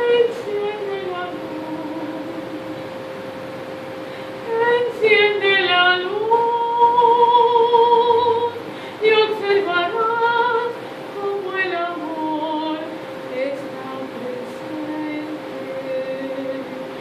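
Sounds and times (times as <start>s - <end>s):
woman singing slow melody: 0.0s - 3.0s, 4.4s - 17.0s
faint steady hum: 0.0s - 17.0s.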